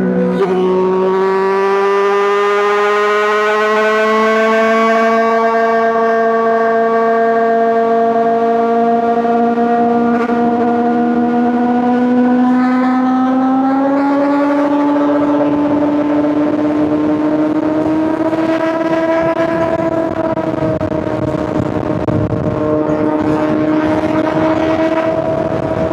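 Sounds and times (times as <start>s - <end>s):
motorcycle engine revving high: 0.0s - 25.9s.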